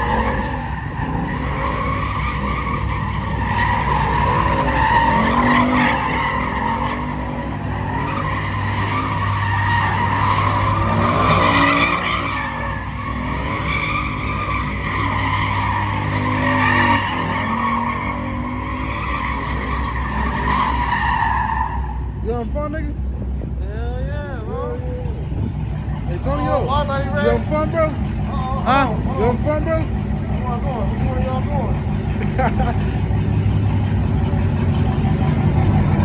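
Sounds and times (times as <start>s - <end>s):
car engine at high revs: 0.0s - 36.0s
car tyres squealing: 0.0s - 36.0s.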